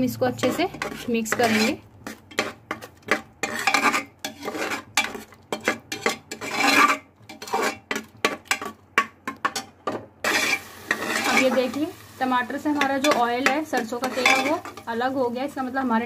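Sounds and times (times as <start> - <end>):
metal spoon scraping pot: 0.1 - 12.0, 12.6 - 15.0.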